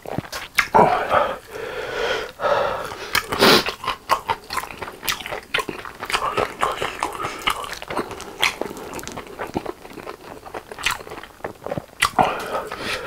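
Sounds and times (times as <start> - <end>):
wet chewing mouth sounds: 0.0 - 13.0.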